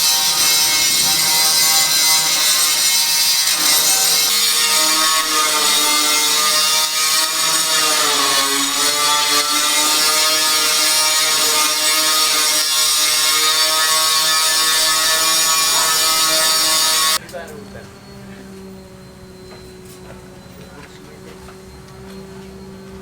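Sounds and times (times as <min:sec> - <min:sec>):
power tool motor whining: 0:00.0 - 0:23.0.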